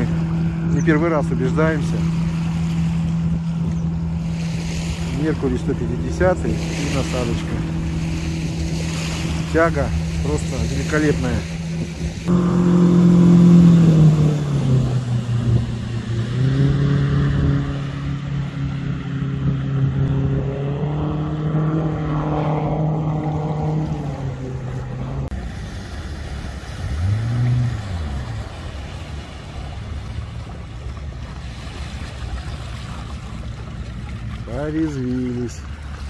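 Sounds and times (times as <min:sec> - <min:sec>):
outboard engine: 0:00.0 - 0:36.0
water noise: 0:00.0 - 0:36.0
wind: 0:00.0 - 0:36.0.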